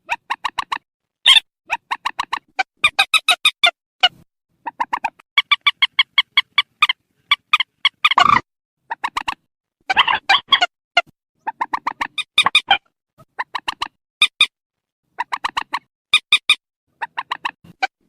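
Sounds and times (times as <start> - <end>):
recorded bird clucking calls: 0.0 - 14.5, 15.1 - 18.0.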